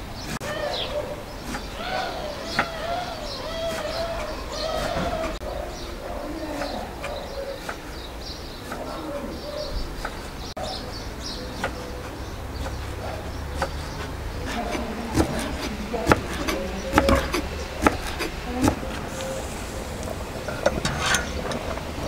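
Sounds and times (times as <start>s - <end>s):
low wavering coos: 0.4s - 21.7s.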